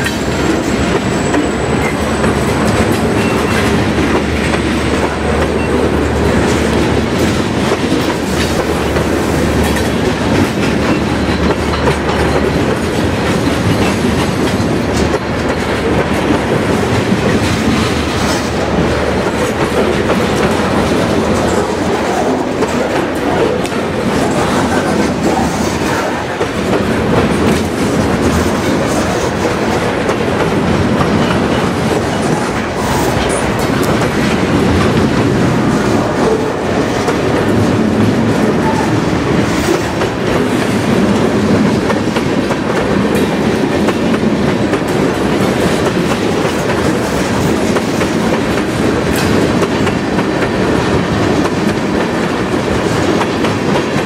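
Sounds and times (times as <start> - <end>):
freight train wheels rumbling: 0.0 - 54.0
wheels clicking over rail joints: 0.0 - 54.0.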